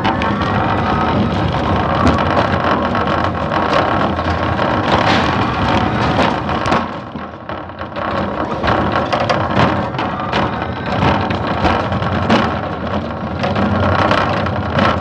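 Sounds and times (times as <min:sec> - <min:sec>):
electric truck driving rumble: 0:00.0 - 0:15.0
rattles and knocks: 0:00.0 - 0:15.0.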